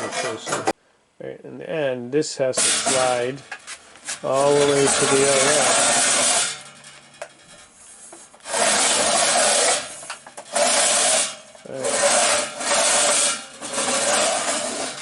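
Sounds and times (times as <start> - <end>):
metal scraping on metal: 0.0 - 0.8, 2.5 - 15.0.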